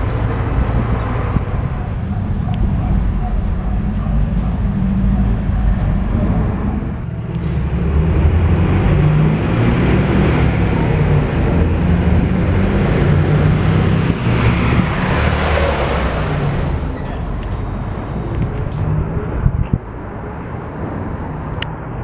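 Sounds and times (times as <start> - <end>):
street traffic: 0.0 - 22.0
vehicle engine running close by: 0.0 - 22.0.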